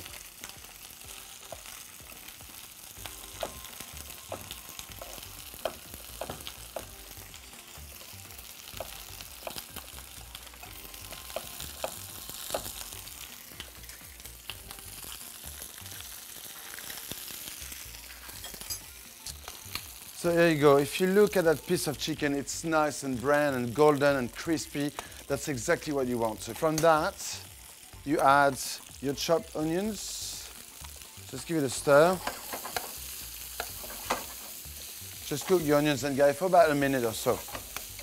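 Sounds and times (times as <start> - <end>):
chicken sizzling in oil: 0.0 - 38.0.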